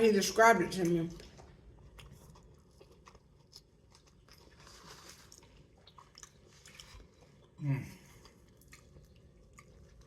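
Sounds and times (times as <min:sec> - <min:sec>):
person chewing pizza: 0:00.8 - 0:10.0.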